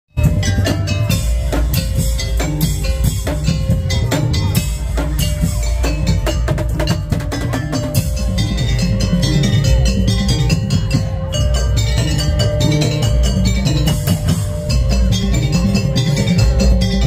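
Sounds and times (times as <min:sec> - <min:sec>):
percussion ensemble playing: 0:00.1 - 0:17.0.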